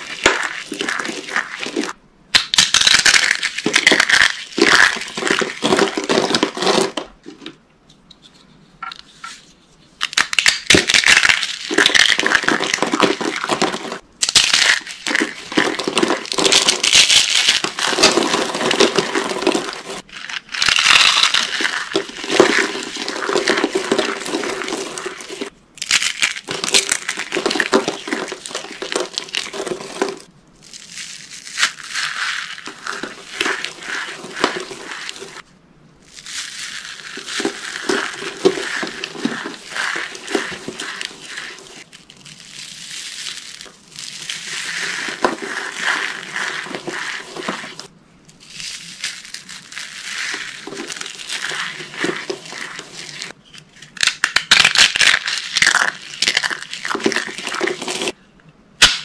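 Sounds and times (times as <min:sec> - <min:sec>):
soap shavings crushed in hands: 0:00.0 - 0:06.9, 0:10.0 - 0:35.4, 0:36.1 - 0:58.2.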